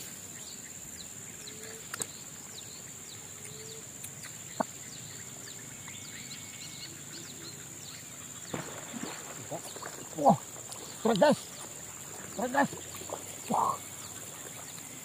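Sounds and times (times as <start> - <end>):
bird chirps: 0.3 - 14.9.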